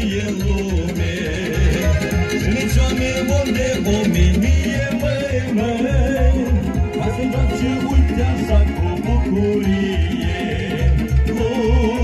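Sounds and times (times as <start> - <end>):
folk dance music: 0.0 - 12.0.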